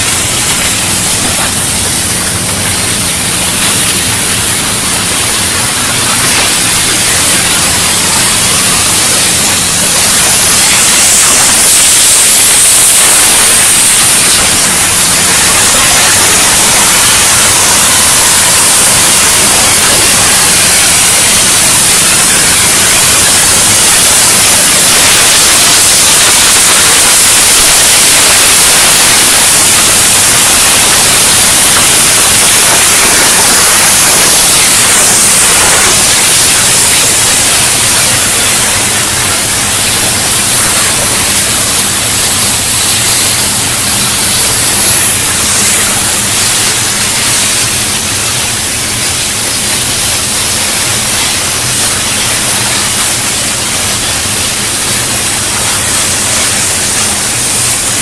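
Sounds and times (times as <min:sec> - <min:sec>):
cutting torch hissing: 0:00.0 - 0:58.0.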